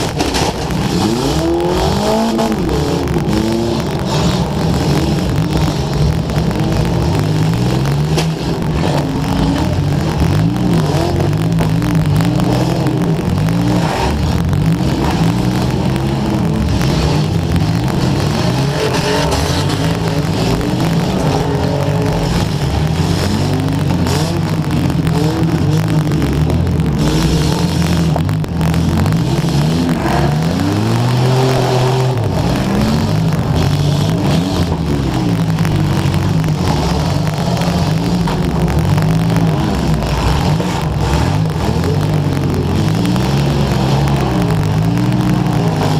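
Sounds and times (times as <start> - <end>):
car engine revving hard: 0.0 - 45.9
sharp cracks and knocks: 0.0 - 45.9.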